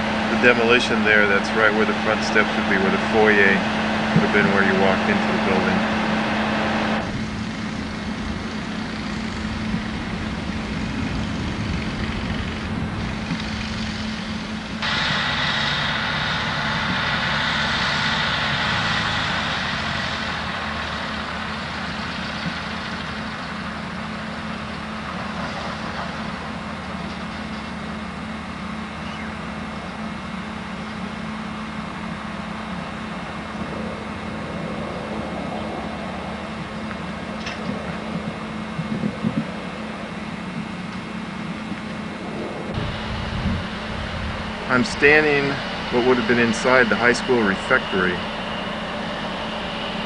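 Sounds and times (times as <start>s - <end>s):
engine whine: 0.0s - 50.0s
heavy vehicle engine running: 0.0s - 50.0s.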